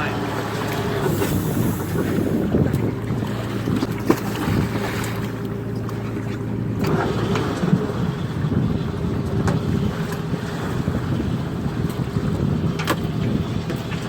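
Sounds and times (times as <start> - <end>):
boat engine and deck machinery: 0.0 - 14.0
wind on microphone: 1.0 - 5.3, 6.9 - 14.0.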